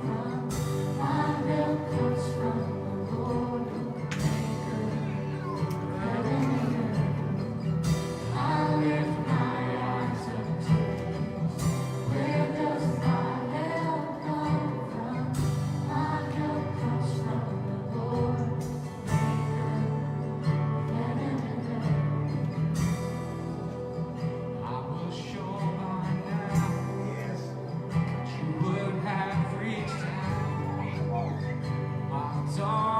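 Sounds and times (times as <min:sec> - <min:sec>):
drums: 0:00.0 - 0:32.9
guitar: 0:00.0 - 0:32.9
singers singing: 0:00.0 - 0:32.9.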